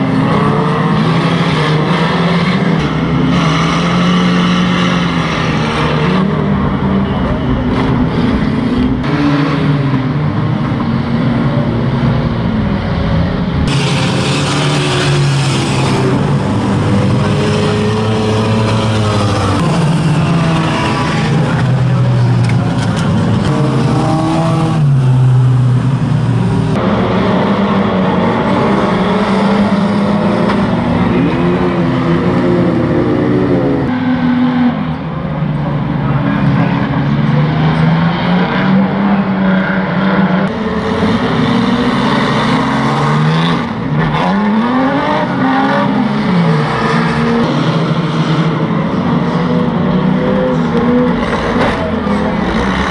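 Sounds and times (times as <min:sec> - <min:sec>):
racing car engines revving: 0:00.0 - 0:52.9.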